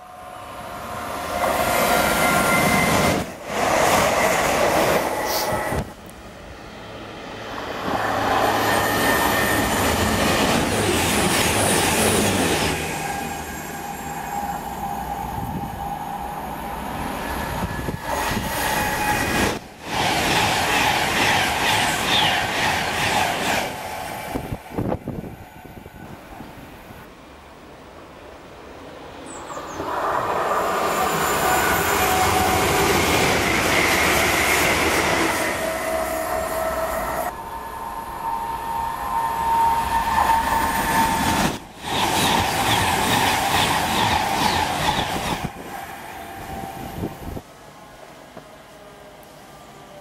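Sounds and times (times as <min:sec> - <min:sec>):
electric trains passing: 0:00.0 - 0:50.0.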